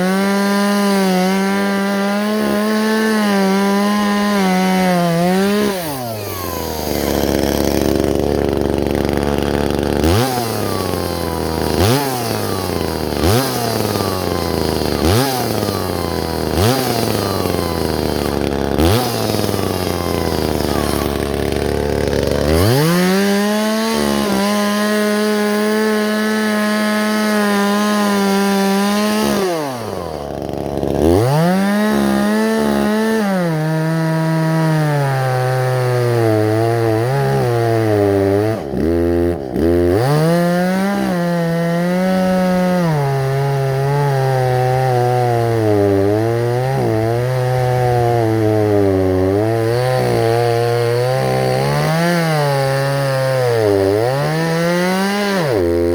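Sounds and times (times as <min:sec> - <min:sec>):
chainsaw cutting into tree: 0:00.0 - 0:55.9.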